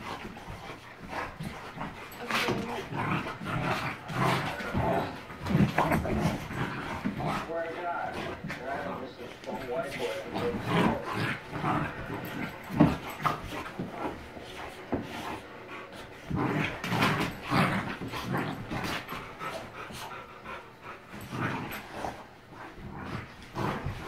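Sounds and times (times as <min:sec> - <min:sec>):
dogs playing: 0:00.0 - 0:24.0.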